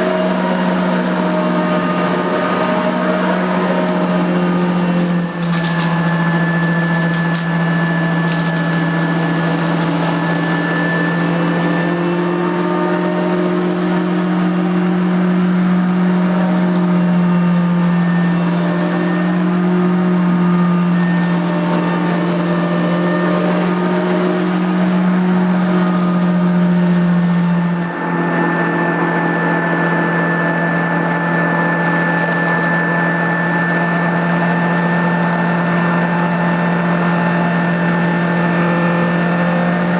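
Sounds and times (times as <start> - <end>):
vacuum cleaner motor hum: 0.0 - 39.9.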